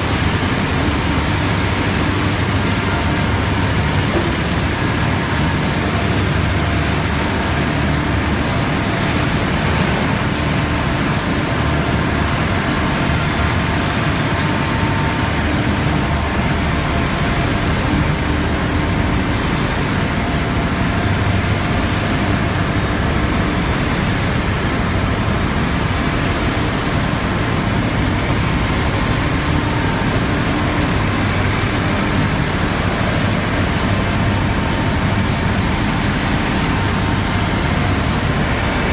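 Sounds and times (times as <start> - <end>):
loud mechanical machinery noise: 0.0 - 38.9.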